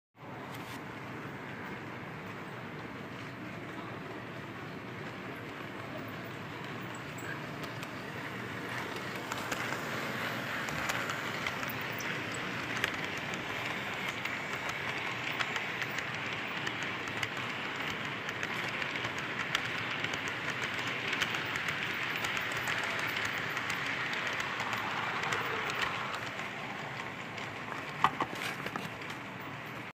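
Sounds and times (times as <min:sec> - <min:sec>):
model train whirring rumble: 0:00.2 - 0:29.9
wheels clicking over rail joints: 0:00.6 - 0:29.9.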